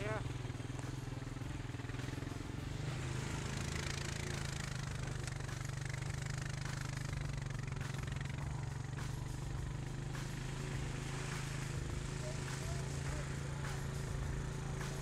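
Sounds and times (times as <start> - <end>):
atv engine running: 0.0 - 15.0
vehicle rattling on dirt trail: 0.0 - 15.0.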